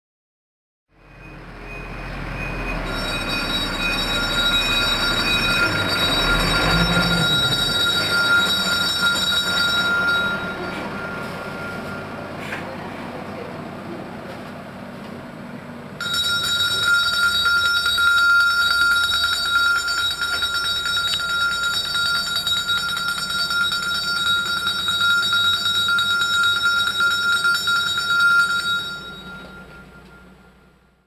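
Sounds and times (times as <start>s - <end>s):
electric bell ringing: 1.0s - 12.3s, 16.0s - 31.0s
truck engine running: 1.0s - 31.0s.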